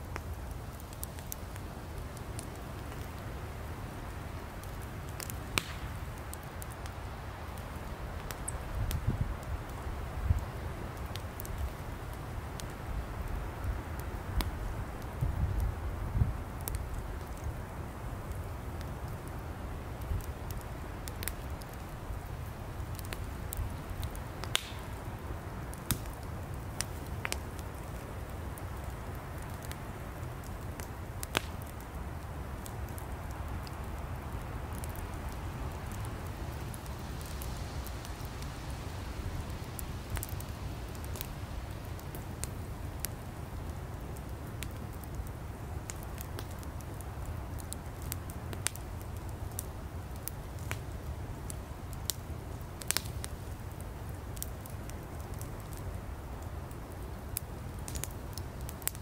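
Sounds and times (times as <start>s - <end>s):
firewood crackling and popping: 0.0s - 59.0s
low rush of flames: 0.0s - 59.0s.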